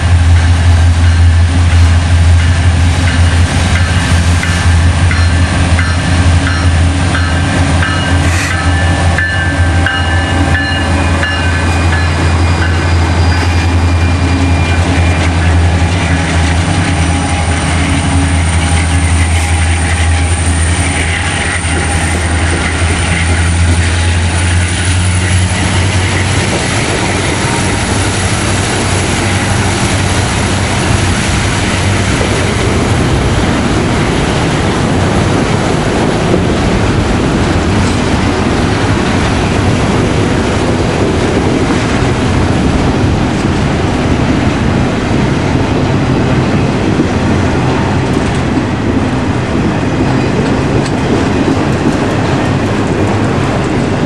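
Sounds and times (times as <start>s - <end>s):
diesel locomotive engine drone: 0.0s - 54.0s
freight cars rolling on rails: 0.0s - 54.0s.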